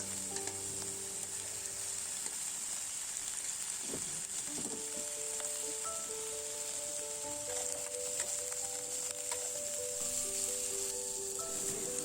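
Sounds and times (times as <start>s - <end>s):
soft background music: 0.0s - 2.8s, 4.5s - 12.0s
meat sizzling in a skillet: 0.0s - 12.0s.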